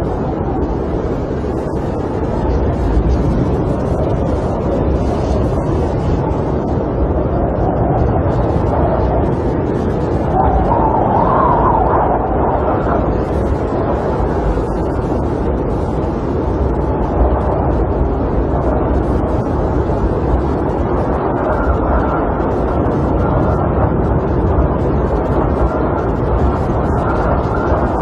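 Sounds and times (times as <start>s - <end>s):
snowstorm wind against camper: 0.0s - 28.0s.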